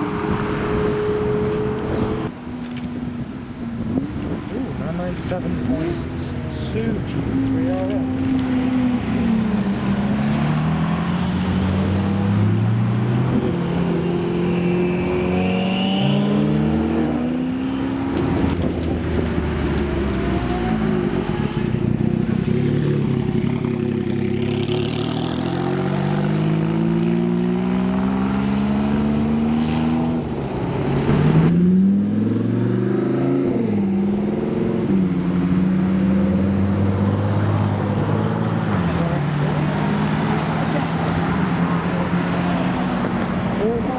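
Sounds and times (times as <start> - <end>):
supercar engines revving: 3.8 - 43.9.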